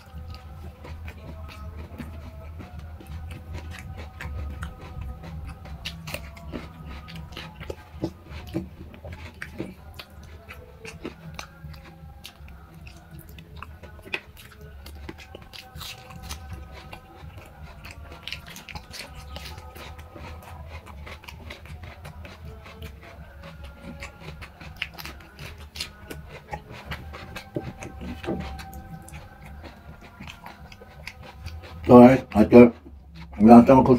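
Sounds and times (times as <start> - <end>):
chewing and wet mouth clicks: 0.0 - 33.9
faint background music: 0.0 - 33.9
fingers working food on plate: 0.0 - 33.9
steady low hum: 0.0 - 33.9.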